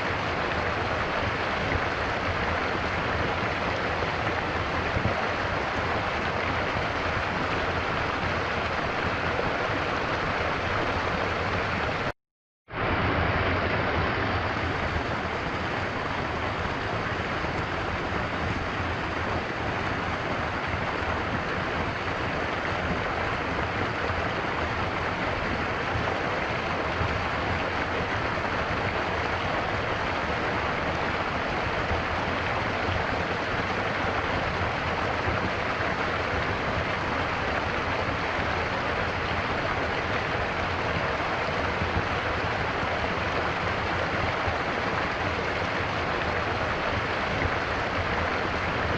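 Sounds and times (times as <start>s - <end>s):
stream water rushing: 0.0s - 12.1s, 12.7s - 48.9s.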